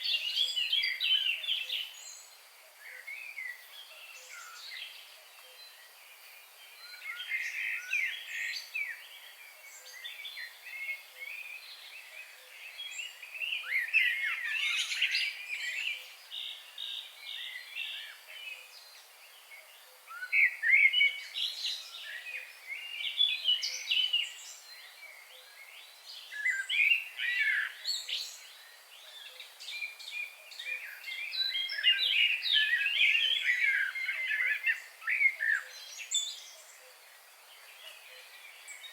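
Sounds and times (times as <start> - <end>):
faint steady outdoor hiss: 0.0 - 38.9
wild birds chirping and singing: 0.0 - 38.9.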